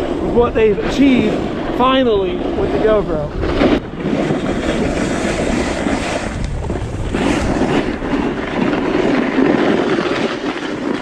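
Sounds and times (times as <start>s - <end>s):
snowboard scraping over snow: 0.0s - 11.0s
wind on microphone: 0.0s - 11.0s.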